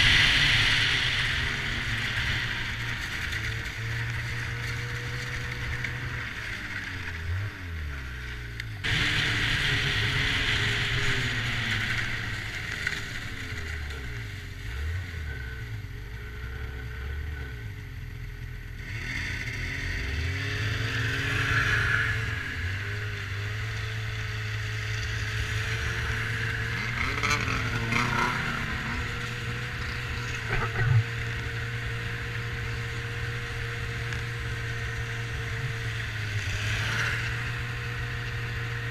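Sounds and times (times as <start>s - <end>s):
snowmobile engine revving: 0.0s - 17.9s, 18.7s - 38.9s
wind and track hiss: 0.0s - 38.9s.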